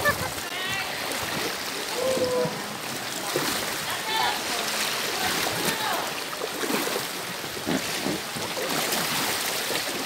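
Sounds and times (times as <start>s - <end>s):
water lapping against kayak: 0.0s - 10.0s.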